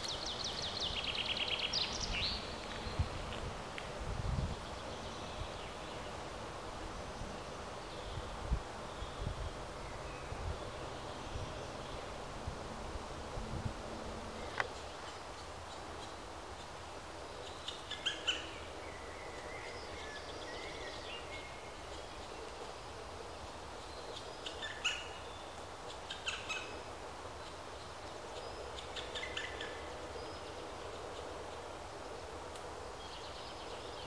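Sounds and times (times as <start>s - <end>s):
outdoor background noise: 0.0s - 34.0s.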